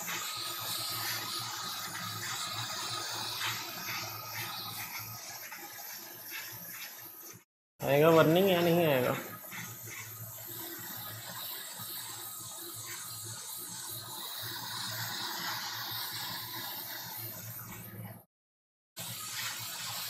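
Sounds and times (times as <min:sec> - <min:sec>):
hot air blower hissing: 0:00.0 - 0:18.0, 0:19.0 - 0:20.0.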